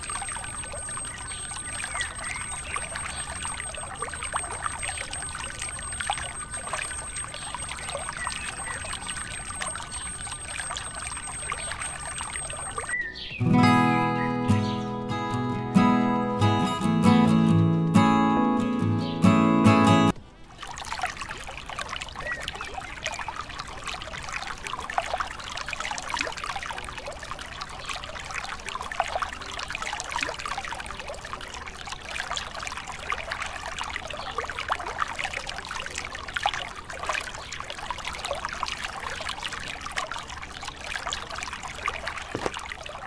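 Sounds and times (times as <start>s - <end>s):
water trickling into pond: 0.0s - 17.8s, 20.1s - 43.0s.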